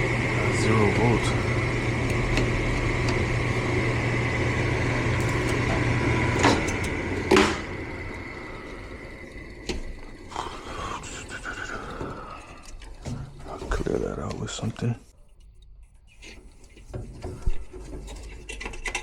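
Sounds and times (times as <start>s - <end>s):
furnace humming: 0.0s - 19.0s.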